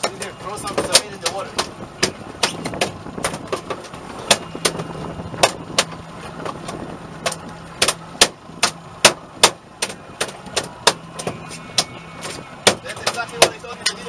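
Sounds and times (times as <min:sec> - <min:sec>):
knocks and clacks on a boat: 0:00.0 - 0:14.0
outboard motor idling: 0:00.0 - 0:14.0.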